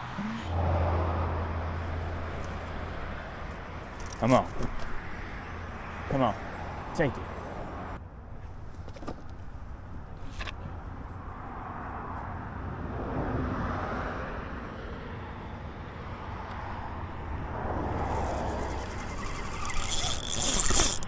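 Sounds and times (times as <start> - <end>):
vehicles passing by: 0.0 - 21.0.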